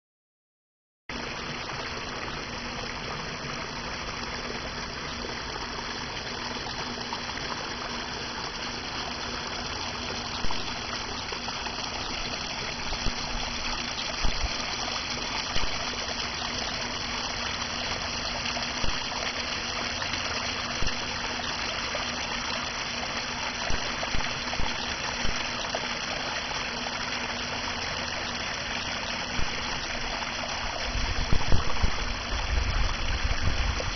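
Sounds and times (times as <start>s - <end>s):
water trickling from small waterfall: 1.1s - 33.9s.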